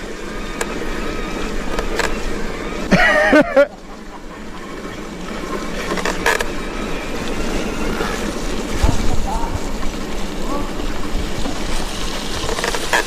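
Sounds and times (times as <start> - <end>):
mountain bike rumbling on trail: 0.0 - 13.0.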